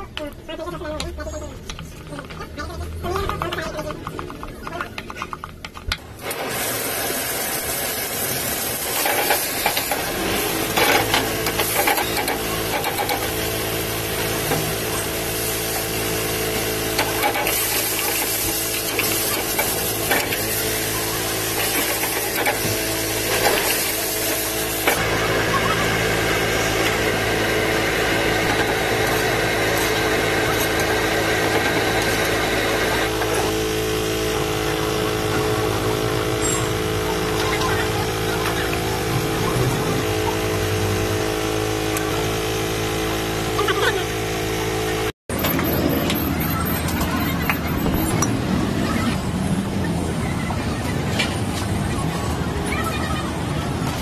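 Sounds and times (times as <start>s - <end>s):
steady machine hum: 6.1s - 50.2s.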